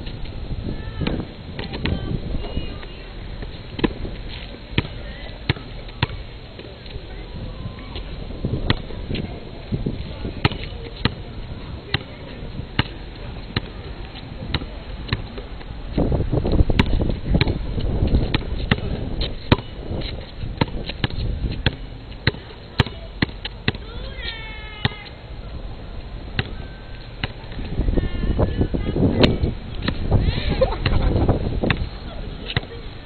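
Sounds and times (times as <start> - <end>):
basketball bouncing on asphalt: 0.0 - 25.2, 26.0 - 32.8.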